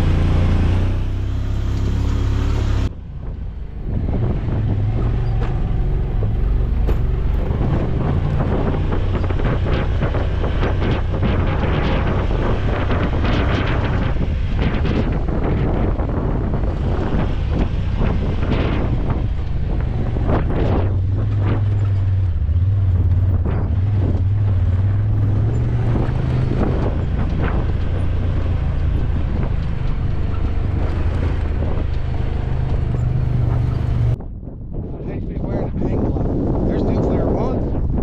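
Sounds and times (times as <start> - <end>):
vehicle engine running: 0.0 - 34.2
wind buffeting microphone: 2.6 - 38.0.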